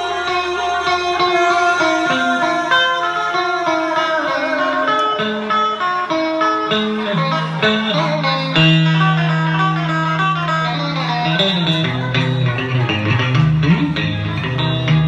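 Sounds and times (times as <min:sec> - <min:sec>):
bass line: 0:00.0 - 0:15.0
electric guitar melody: 0:00.0 - 0:15.0.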